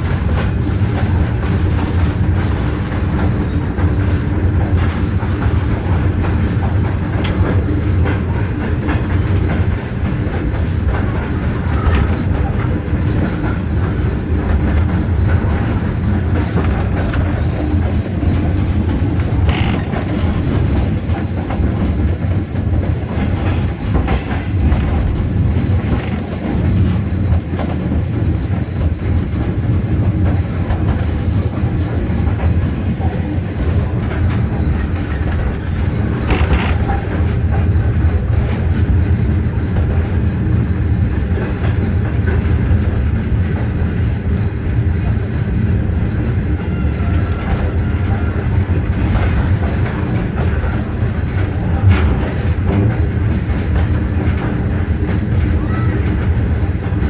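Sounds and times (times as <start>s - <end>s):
rail clicks and clatter: 0.0s - 57.0s
train rumbling on track: 0.0s - 57.0s.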